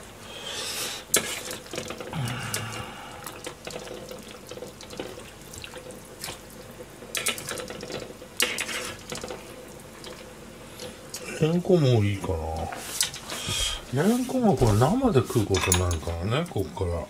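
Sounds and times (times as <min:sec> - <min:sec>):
water sloshing in a pan: 0:01.1 - 0:16.6.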